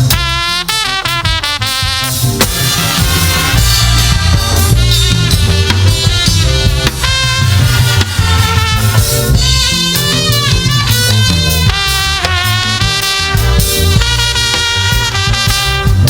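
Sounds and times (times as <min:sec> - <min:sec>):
drum kit beat: 0:00.0 - 0:16.0
low bass notes: 0:00.0 - 0:16.0.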